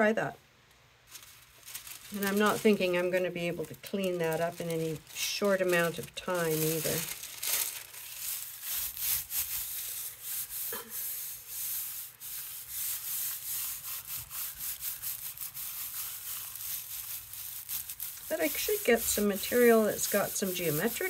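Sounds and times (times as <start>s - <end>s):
hands rubbing tissue paper: 1.1s - 21.0s.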